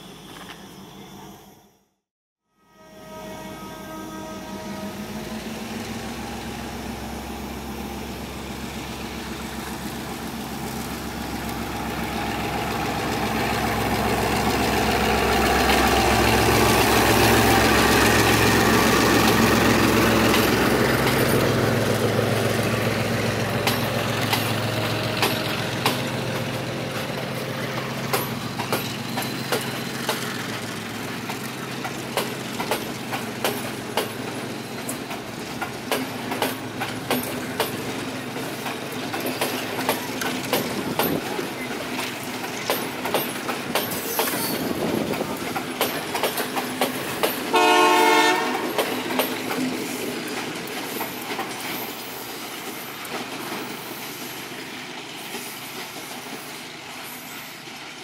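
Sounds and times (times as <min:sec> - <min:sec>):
diesel locomotive engine drone: 0:00.0 - 0:58.0
train wheels clicking over rail joints: 0:08.4 - 0:58.0.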